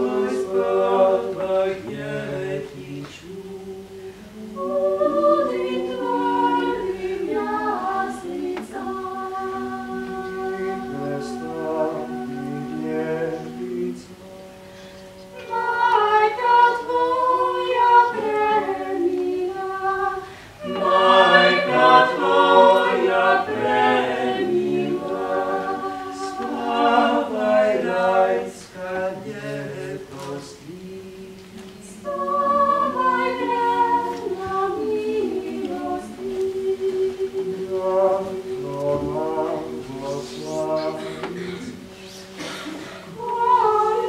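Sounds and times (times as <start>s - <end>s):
a cappella vocal ensemble singing: 0.0s - 44.0s.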